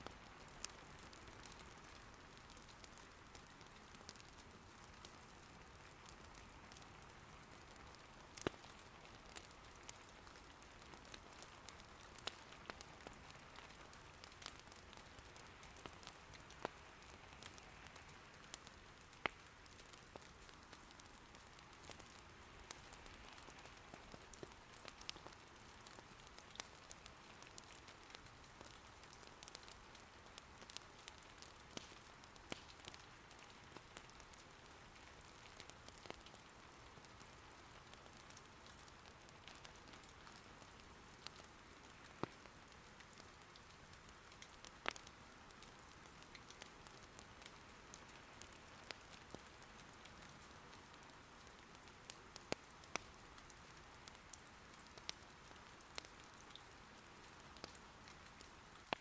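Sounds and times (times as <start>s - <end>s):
soft rain patter: 0.0s - 59.0s
firewood popping and crackling: 7.5s - 56.7s, 57.3s - 59.0s.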